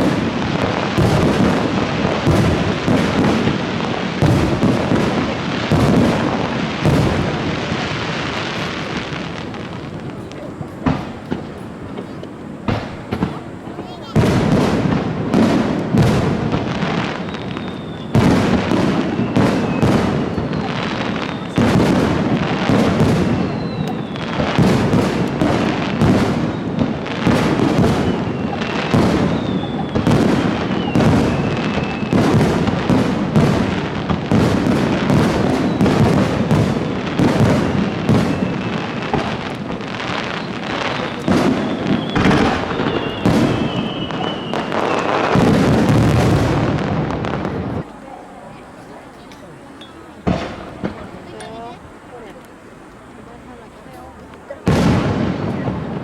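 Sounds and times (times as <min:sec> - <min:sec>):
fireworks whistles: 0:00.0 - 0:49.1, 0:49.7 - 0:56.0
fireworks shells booming and crackling: 0:00.0 - 0:56.0.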